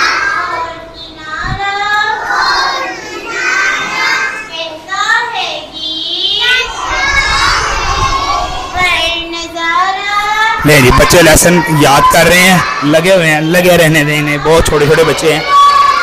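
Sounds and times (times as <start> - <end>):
children reciting together: 0.0 - 16.0.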